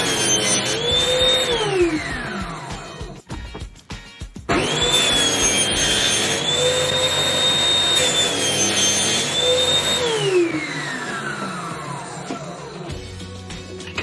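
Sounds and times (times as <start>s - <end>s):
power tool motor whining: 0.0s - 3.0s, 4.5s - 12.9s.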